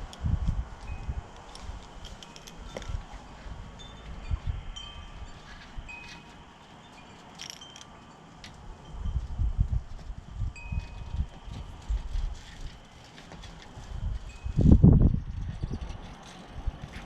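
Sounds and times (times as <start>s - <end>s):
high thin tinkling tones: 0.8s - 13.0s, 14.0s - 16.0s.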